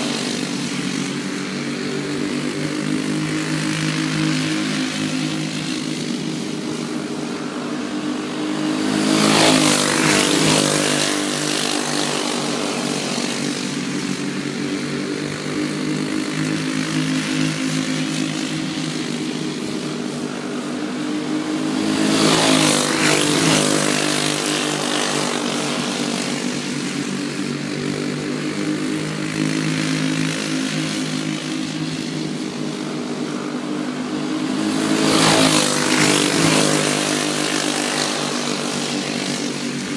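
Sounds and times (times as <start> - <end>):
go-kart engines buzzing: 0.0 - 39.9
go-karts passing by: 0.0 - 39.9.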